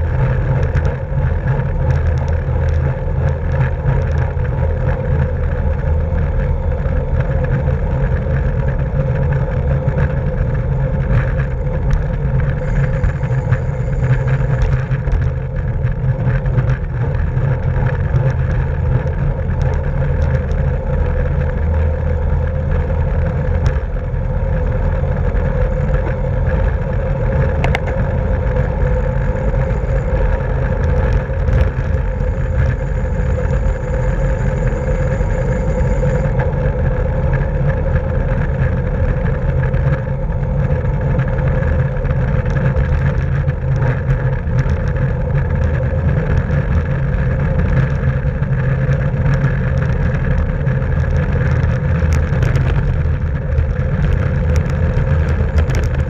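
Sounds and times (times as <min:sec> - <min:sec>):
bicycle road noise: 0:00.0 - 0:56.0
wind rushing over microphone: 0:00.0 - 0:56.0.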